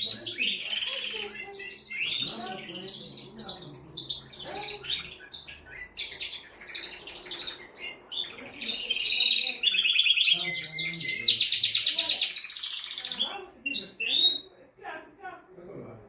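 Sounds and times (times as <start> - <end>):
canary singing: 0.0 - 14.6.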